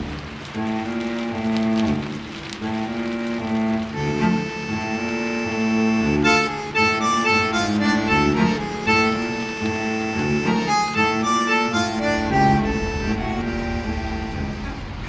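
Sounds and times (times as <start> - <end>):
background music melody: 0.0 - 15.0.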